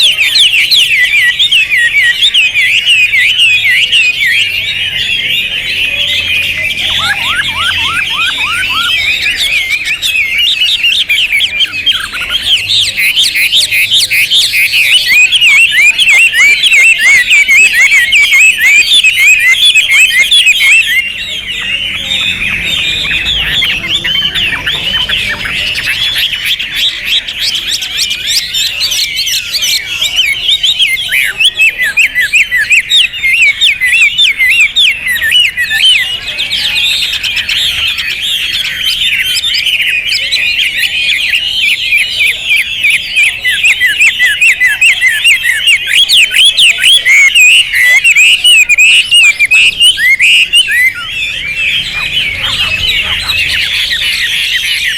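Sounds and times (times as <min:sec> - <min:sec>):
bird warbling song: 0:00.0 - 0:54.9.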